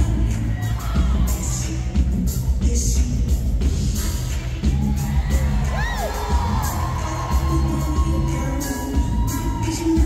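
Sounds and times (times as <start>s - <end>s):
live band music: 0.0s - 10.0s
woman singing: 0.0s - 10.0s.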